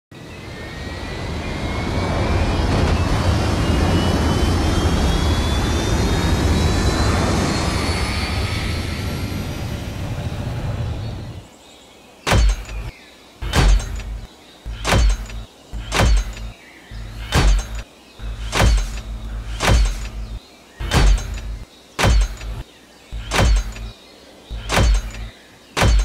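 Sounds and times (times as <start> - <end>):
aircraft engine rumble with whine: 0.2 - 11.5, 12.4 - 22.6.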